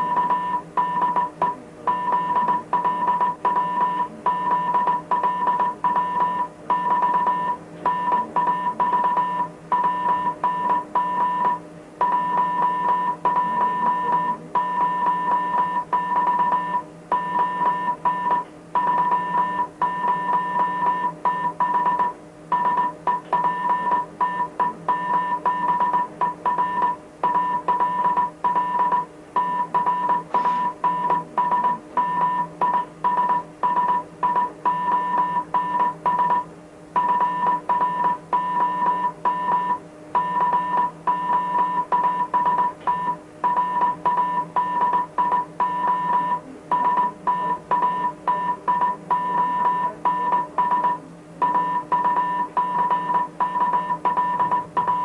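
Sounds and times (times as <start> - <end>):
morse code beeps: 0.0 - 55.0
steady low hum: 0.0 - 55.0.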